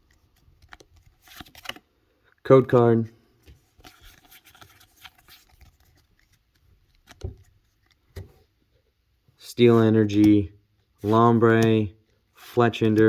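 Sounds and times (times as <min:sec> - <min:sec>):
cards rustling and sliding: 0:00.1 - 0:02.4, 0:03.4 - 0:09.0, 0:09.6 - 0:13.0.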